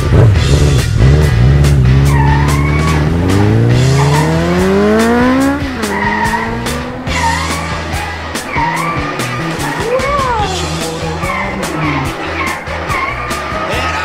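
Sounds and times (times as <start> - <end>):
race car engine revving: 0.0 - 13.9
rock music with steady beat: 0.0 - 14.0
tire squeals: 1.8 - 14.0.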